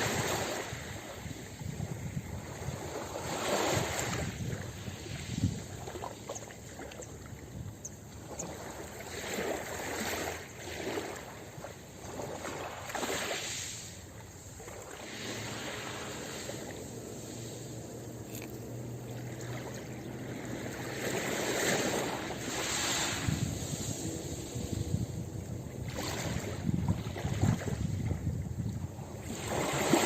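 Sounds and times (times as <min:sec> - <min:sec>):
ocean waves washing onto beach: 0:00.0 - 0:30.0.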